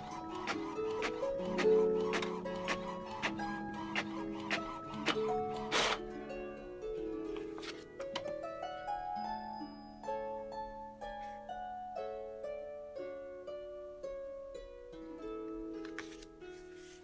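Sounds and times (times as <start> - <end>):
harp-like plucked string melody: 0.0 - 17.0.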